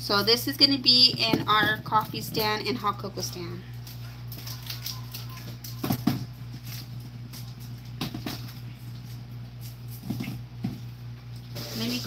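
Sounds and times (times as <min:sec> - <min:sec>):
steady low hum: 0:00.0 - 0:12.0
groceries knocking and rustling: 0:00.8 - 0:11.0.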